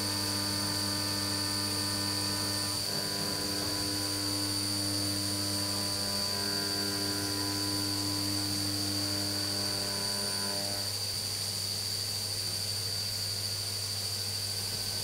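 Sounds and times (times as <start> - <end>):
milling machine humming and whining: 0.0 - 15.0.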